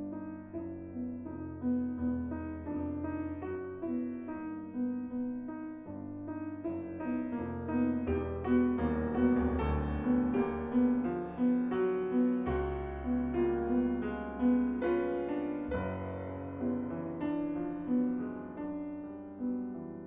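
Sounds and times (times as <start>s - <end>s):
grand piano playing: 0.0s - 20.0s.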